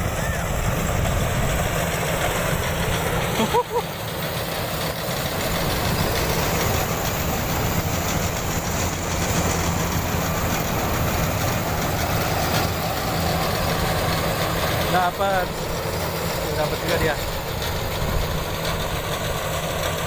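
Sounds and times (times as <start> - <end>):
combine harvester engine running: 0.0 - 20.0.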